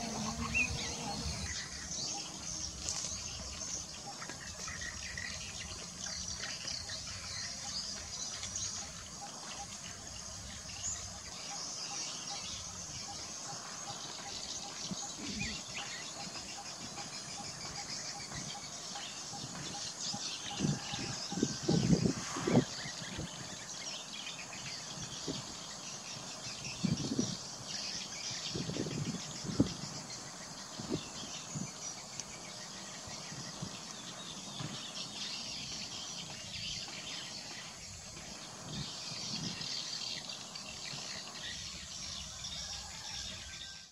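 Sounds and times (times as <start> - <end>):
birds chirping: 0.0 - 43.9
insects chirping: 0.0 - 43.9.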